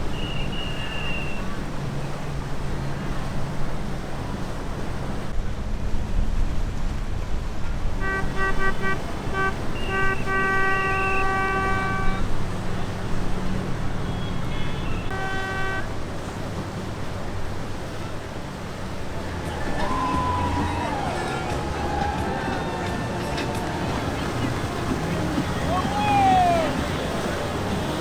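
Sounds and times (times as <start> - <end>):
boat horn blasts: 0.0 - 5.0, 7.6 - 28.0
boat engines rumbling: 0.0 - 28.0.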